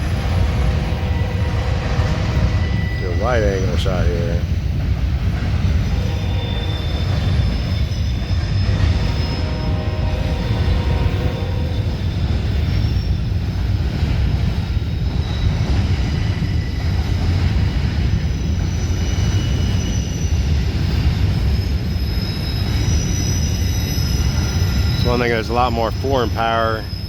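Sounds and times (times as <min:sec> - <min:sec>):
high wheel squeals: 0:00.0 - 0:04.6, 0:05.2 - 0:27.0
freight train rumbling: 0:00.0 - 0:27.0.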